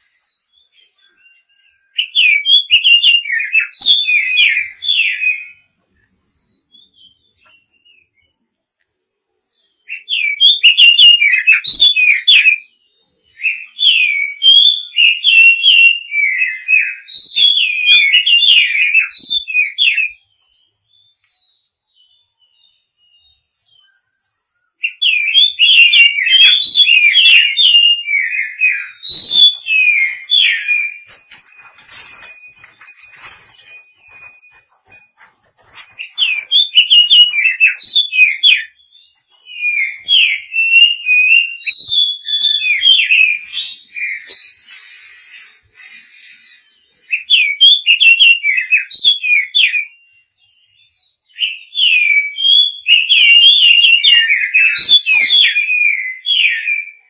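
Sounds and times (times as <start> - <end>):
bird whistling song: 0.0 - 8.4, 9.4 - 57.0.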